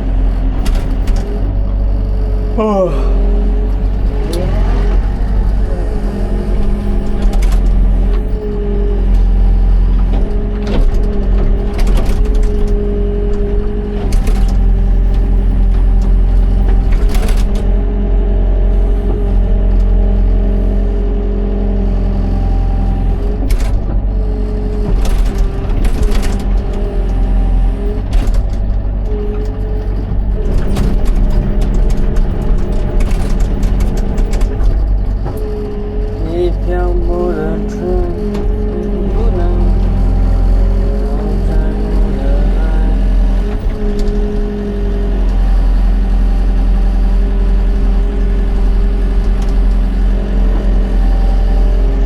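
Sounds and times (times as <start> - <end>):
diesel engine running under load: 0.0 - 52.0
hydraulic whine: 0.0 - 52.0.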